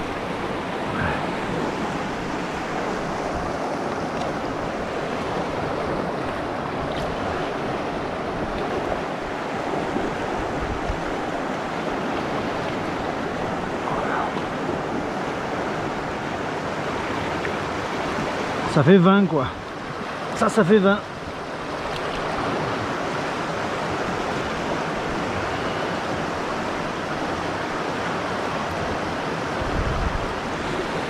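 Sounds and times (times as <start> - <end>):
river water rushing over stones: 0.0 - 31.0.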